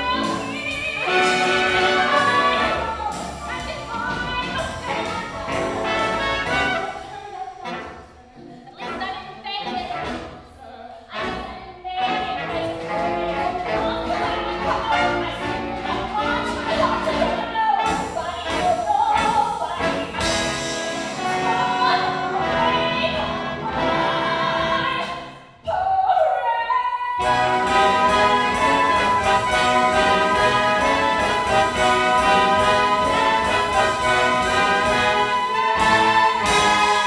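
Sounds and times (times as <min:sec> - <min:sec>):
orchestra with brass: 0:00.0 - 0:10.5, 0:11.1 - 0:25.4, 0:27.2 - 0:37.0.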